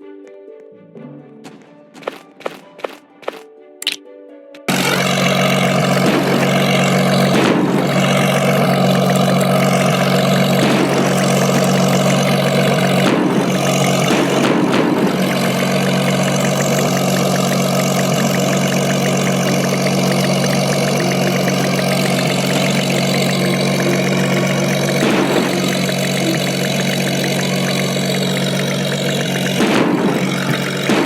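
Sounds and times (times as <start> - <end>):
aircraft engines humming: 4.6 - 31.0.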